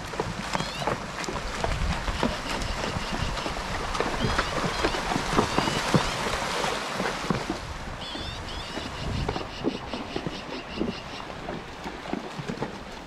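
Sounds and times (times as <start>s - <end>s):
hooves splashing in water: 0.0s - 13.0s
stream rushing: 0.0s - 13.0s.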